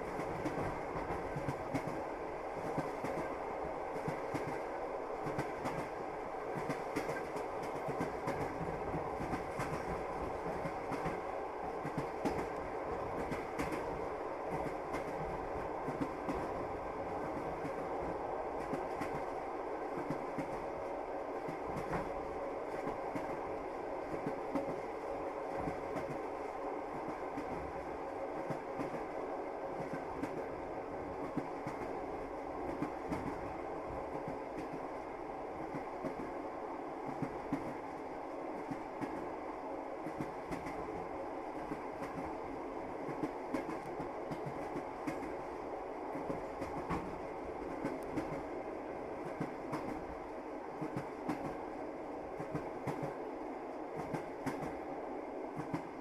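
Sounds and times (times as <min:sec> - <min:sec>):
train carriage rumbling: 0:00.0 - 0:56.0.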